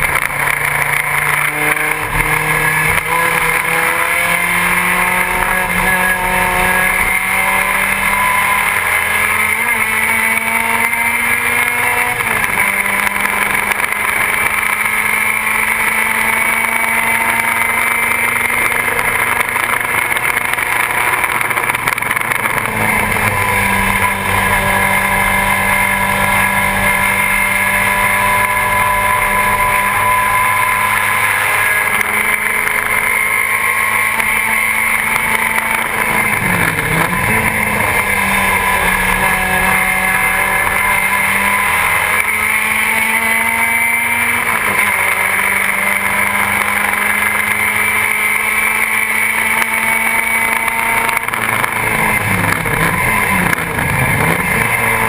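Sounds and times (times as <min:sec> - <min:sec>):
race car engine running hard: 0:00.0 - 0:55.0
road noise: 0:00.0 - 0:55.0.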